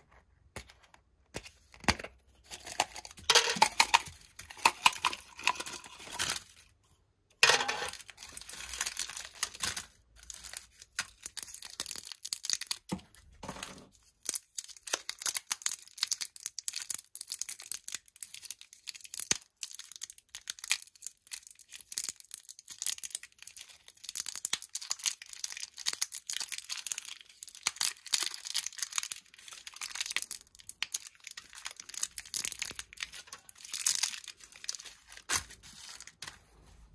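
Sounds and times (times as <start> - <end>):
plastic wrappers crinkling: 2.4 - 6.8, 7.4 - 36.9.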